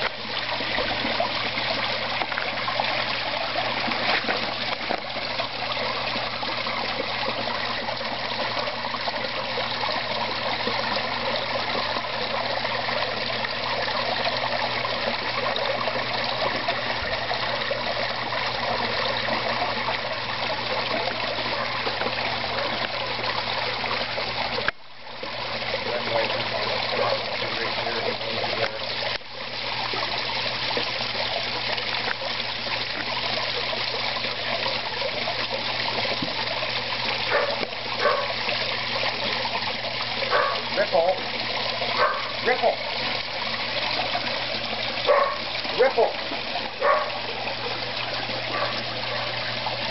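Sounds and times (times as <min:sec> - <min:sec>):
small waterfall splashing into pond: 0:00.0 - 0:49.9.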